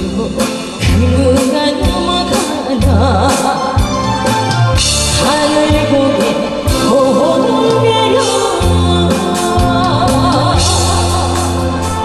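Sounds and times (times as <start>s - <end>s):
person singing with vibrato: 0.0s - 4.1s, 5.0s - 12.0s
backing track bass and drums: 0.0s - 12.0s.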